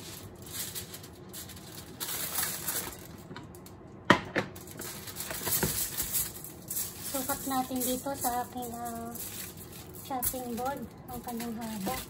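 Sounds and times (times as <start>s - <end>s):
aluminium foil crinkling: 0.0s - 3.9s, 4.5s - 12.0s.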